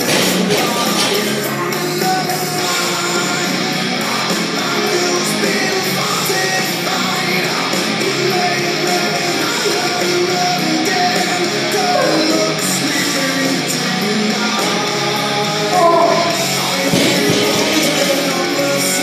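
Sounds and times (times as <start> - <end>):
rock music with guitar: 0.0 - 19.0
person singing: 0.1 - 19.0.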